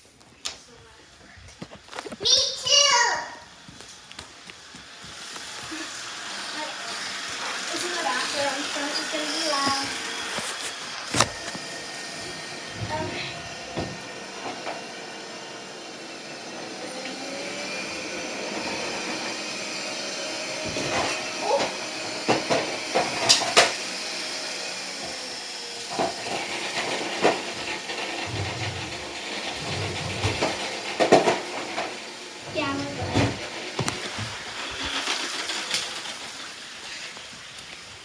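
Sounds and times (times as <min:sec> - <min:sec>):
bathroom exhaust fan hissing: 0:00.0 - 0:38.0.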